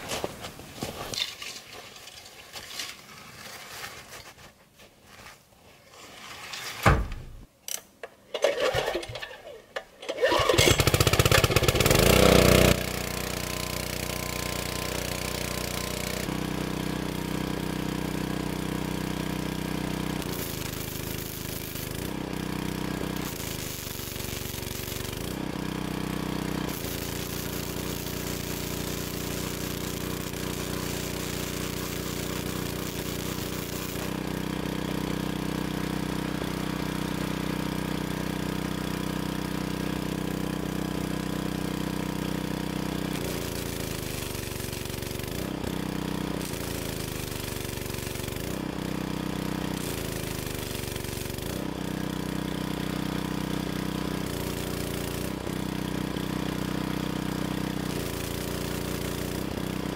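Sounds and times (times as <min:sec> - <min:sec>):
portable generator engine running: 0:08.3 - 0:59.9.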